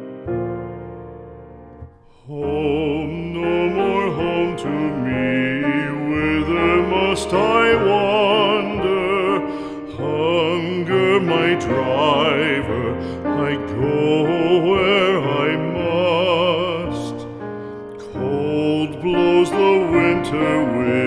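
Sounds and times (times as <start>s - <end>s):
piano chords: 0.0s - 21.0s
classical voice singing with vibrato: 2.0s - 21.0s.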